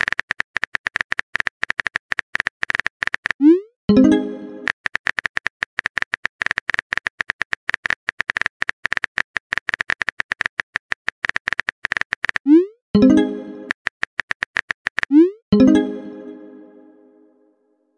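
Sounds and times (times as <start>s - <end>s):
keyboard typing clicks: 0.0s - 15.8s.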